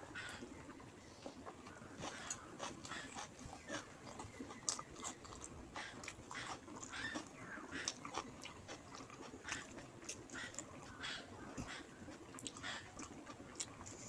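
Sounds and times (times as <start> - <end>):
person chewing and lip smacking: 1.2 - 10.8, 11.5 - 14.0.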